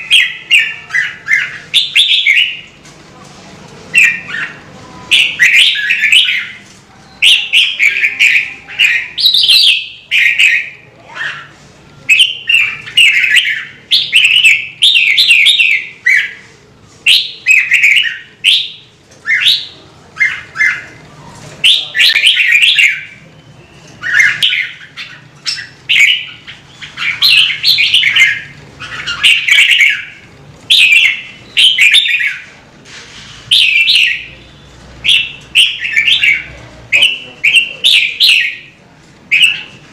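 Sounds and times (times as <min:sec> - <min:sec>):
bird singing warbled phrases: 0:00.0 - 0:02.8, 0:03.9 - 0:32.6, 0:33.5 - 0:39.9.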